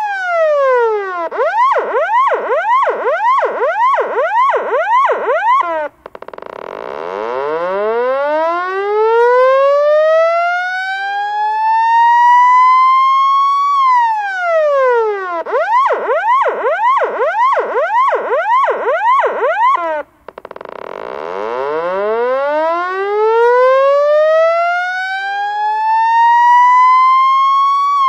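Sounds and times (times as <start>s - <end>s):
police siren wailing and yelping: 0.0s - 6.3s, 7.2s - 20.1s, 21.5s - 28.0s.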